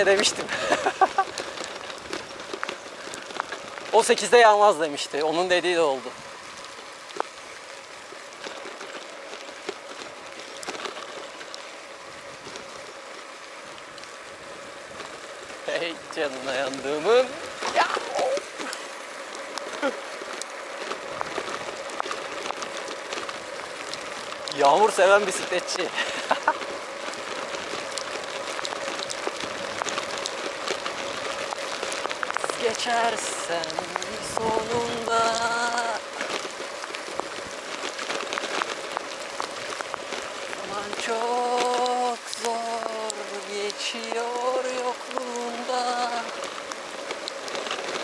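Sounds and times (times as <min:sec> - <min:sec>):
raindrop taps: 0:00.0 - 0:05.7, 0:06.4 - 0:48.0
rain falling: 0:00.0 - 0:48.0.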